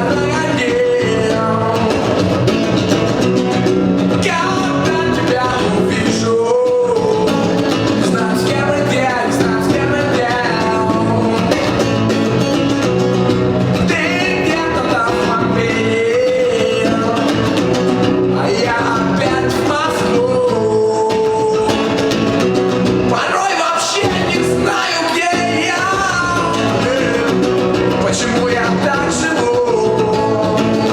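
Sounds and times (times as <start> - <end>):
person singing: 0.0 - 2.7, 4.1 - 12.8, 13.8 - 22.1, 23.1 - 30.9
acoustic guitar: 0.0 - 30.9.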